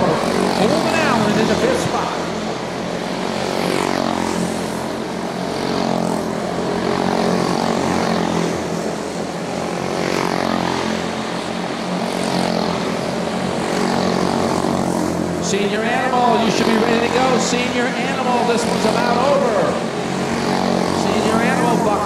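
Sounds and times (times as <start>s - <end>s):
small race car engines buzzing: 0.0s - 22.0s.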